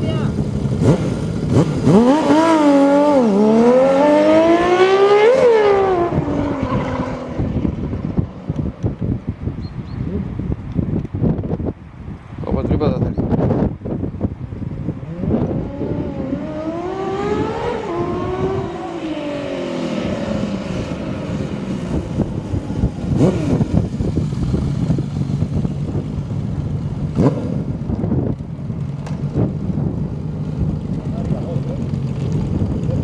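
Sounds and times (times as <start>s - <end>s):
motorcycle engine revving: 0.0s - 8.5s, 13.4s - 33.0s.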